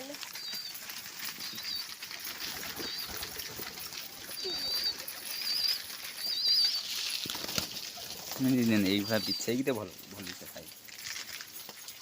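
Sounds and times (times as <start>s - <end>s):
birds twittering: 0.0s - 12.0s
light rustle: 0.0s - 12.0s.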